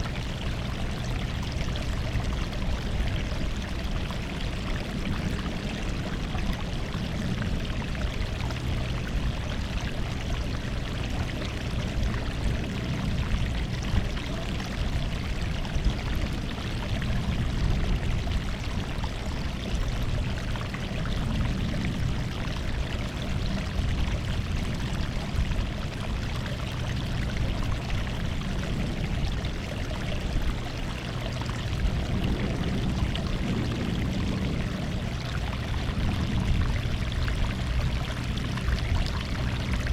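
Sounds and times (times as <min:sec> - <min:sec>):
small waves washing on shore: 0:00.0 - 0:39.9.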